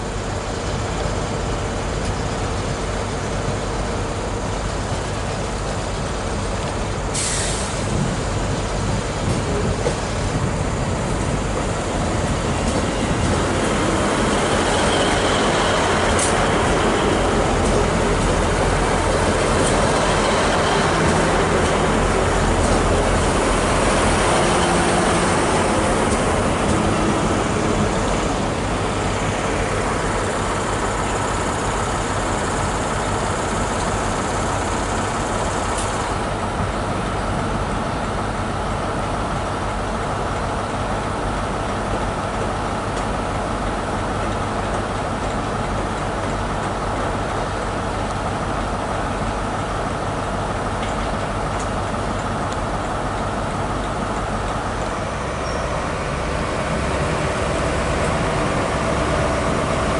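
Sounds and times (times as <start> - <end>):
diesel train pulling away: 0.0 - 59.9
passenger train running past: 0.0 - 59.9.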